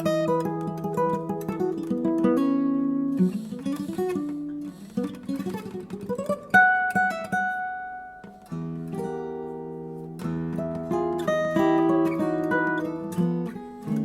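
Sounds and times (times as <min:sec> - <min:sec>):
solo jazz guitar: 0:00.0 - 0:14.0.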